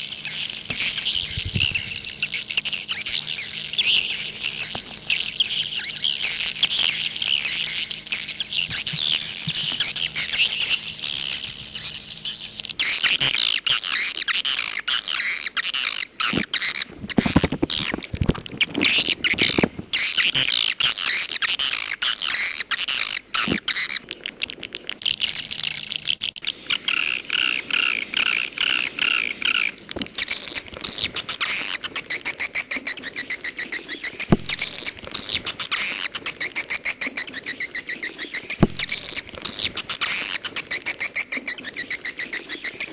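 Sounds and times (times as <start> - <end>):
swiftlets twittering: 0.0 - 18.0, 18.8 - 42.9.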